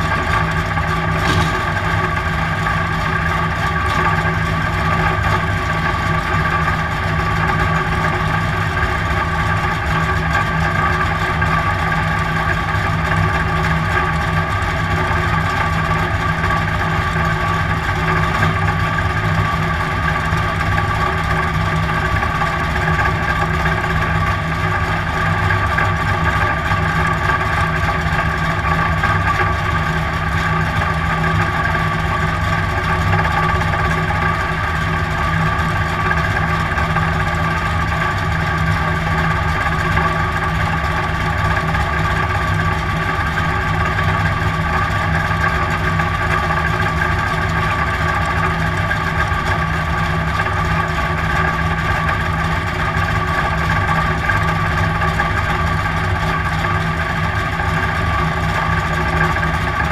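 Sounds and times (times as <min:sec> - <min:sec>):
race car engine idling: 0:00.0 - 0:59.9.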